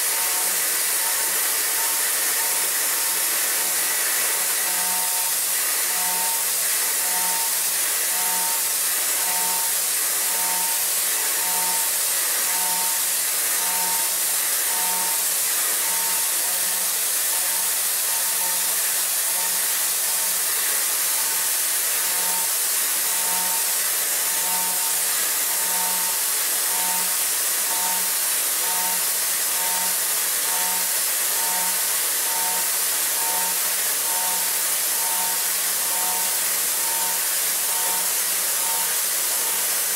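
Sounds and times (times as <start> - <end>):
milling machine cutting metal: 0.0 - 39.9.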